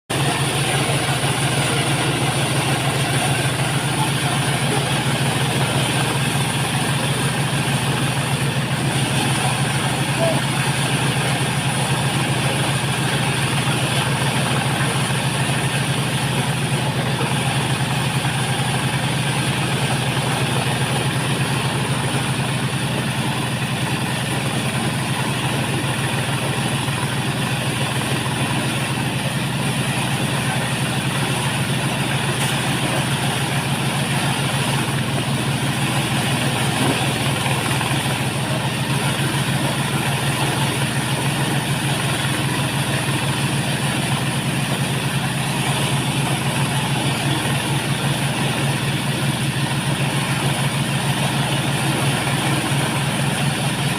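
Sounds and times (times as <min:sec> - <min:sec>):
corn sheller engine hum: 0:00.0 - 0:53.9.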